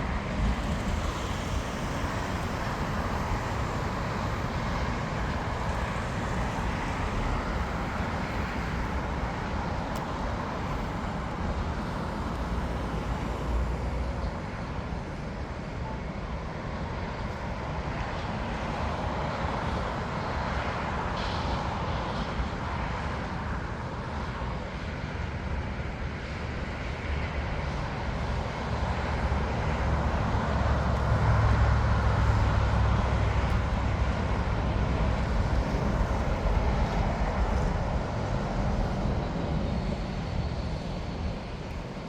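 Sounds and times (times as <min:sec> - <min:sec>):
distant jet engines running: 0:00.0 - 0:42.0
road traffic: 0:00.0 - 0:42.0.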